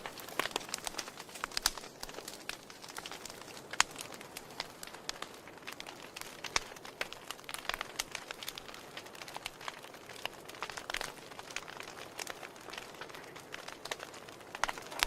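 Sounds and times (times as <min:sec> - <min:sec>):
fireplace logs crackling: 0:00.0 - 0:15.0.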